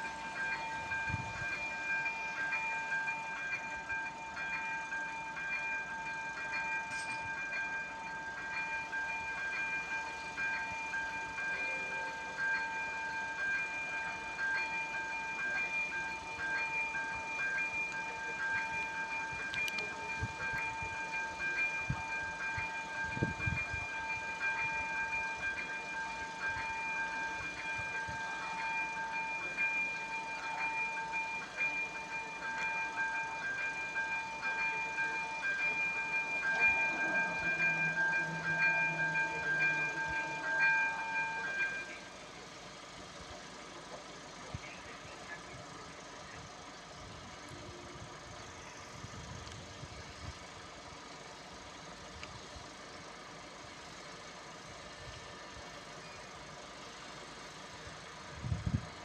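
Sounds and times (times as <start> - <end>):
level crossing warning bell: 0.0 - 59.0.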